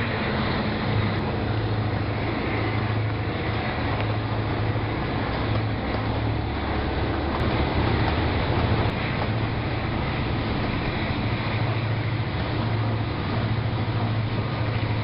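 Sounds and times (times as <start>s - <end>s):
diesel locomotive drone: 0.0s - 15.0s
train cars rumbling on track: 0.0s - 15.0s.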